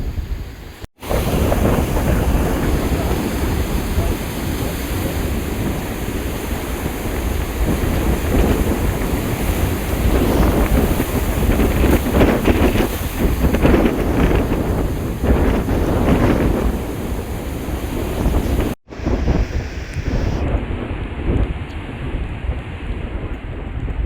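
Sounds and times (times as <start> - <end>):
rough sea: 0.0 - 24.0
wind buffeting microphone: 0.0 - 24.0.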